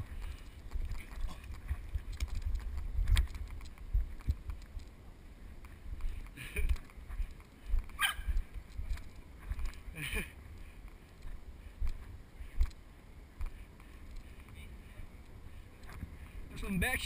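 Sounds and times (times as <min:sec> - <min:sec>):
wind buffeting camera: 0:00.0 - 0:17.0.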